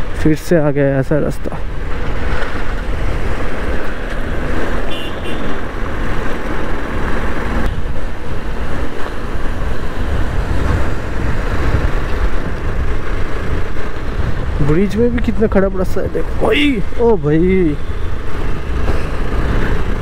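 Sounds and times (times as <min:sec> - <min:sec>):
tyre noise on rough road: 0:00.0 - 0:20.0
wind rumbling on microphone: 0:01.4 - 0:20.0.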